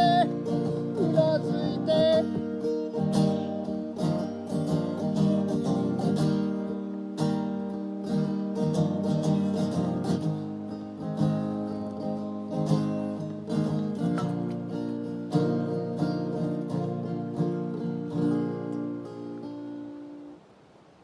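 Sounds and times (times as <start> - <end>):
strummed acoustic guitar: 0.0 - 20.4.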